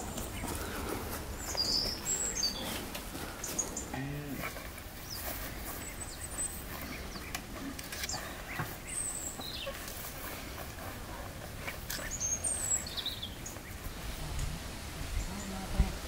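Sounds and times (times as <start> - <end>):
small birds chirping: 0.0 - 14.5, 15.1 - 16.0
steady outdoor hiss: 0.0 - 16.0.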